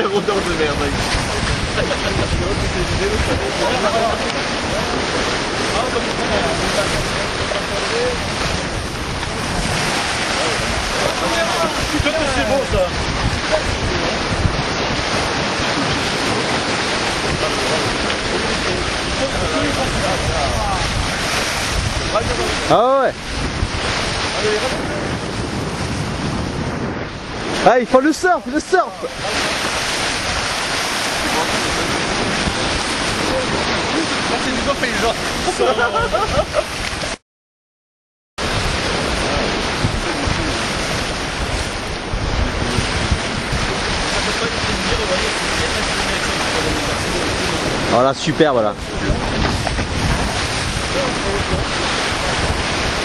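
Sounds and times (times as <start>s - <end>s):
choppy sea water: 0.0s - 37.2s, 38.4s - 53.0s
waves breaking: 0.0s - 37.2s, 38.4s - 53.0s
wind buffeting microphone: 0.0s - 37.2s, 38.4s - 53.0s.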